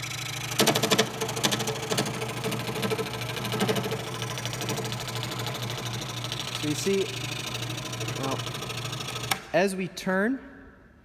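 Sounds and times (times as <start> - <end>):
scroll saw cutting wood: 0.0 - 9.4.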